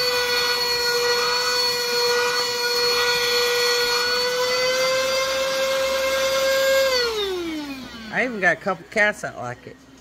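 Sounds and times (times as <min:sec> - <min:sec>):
vacuum cleaner whining: 0:00.0 - 0:09.3.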